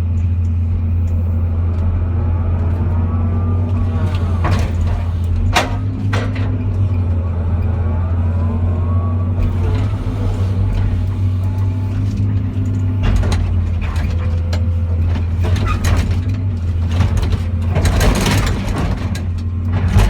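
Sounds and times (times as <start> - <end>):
excavator diesel engine running: 0.0 - 20.0
grinding crunch: 0.0 - 20.0
metal clanks and crunches: 0.0 - 20.0.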